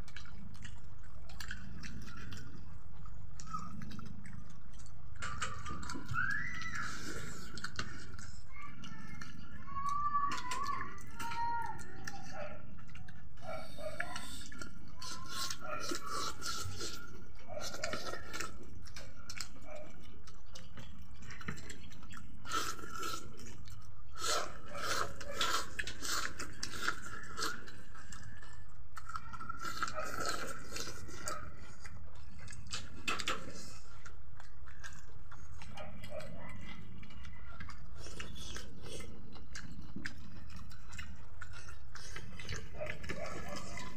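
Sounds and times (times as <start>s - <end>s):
people chewing with wet smacks: 0.0s - 43.9s.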